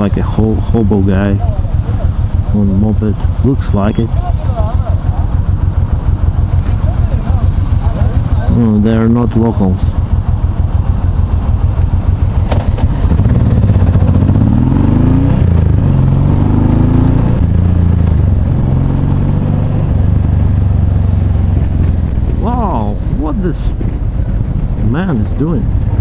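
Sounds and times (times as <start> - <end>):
motorcycle engine pulling away: 0.0 - 26.0.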